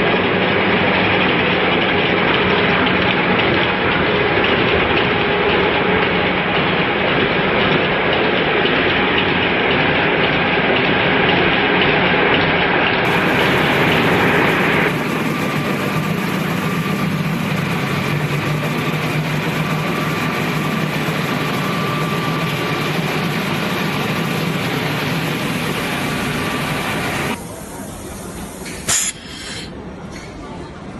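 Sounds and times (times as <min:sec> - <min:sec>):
machinery running: 0:00.0 - 0:30.1.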